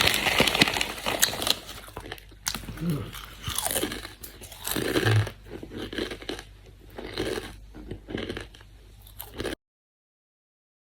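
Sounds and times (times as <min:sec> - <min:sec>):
person crunching chips: 0:00.0 - 0:09.6.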